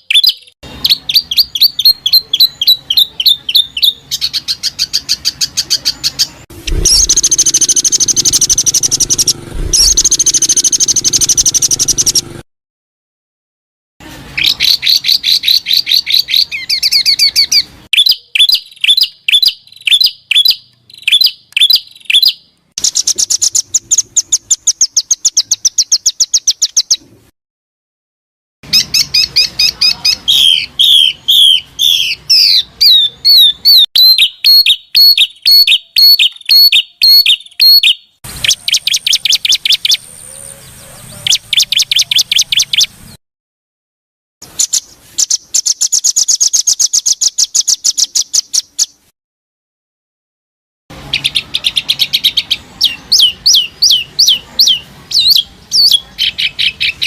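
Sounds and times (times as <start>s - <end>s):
songbird calls and trills: 0.0s - 12.2s, 14.4s - 27.0s, 28.7s - 43.2s, 44.4s - 49.1s, 51.1s - 57.0s.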